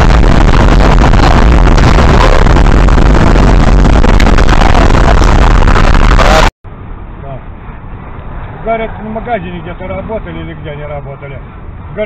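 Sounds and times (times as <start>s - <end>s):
distorted car road and wind noise: 0.0s - 12.0s.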